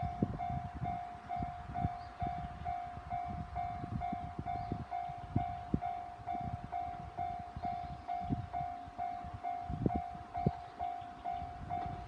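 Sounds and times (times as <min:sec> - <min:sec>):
railway crossing warning bell: 0:00.0 - 0:12.0.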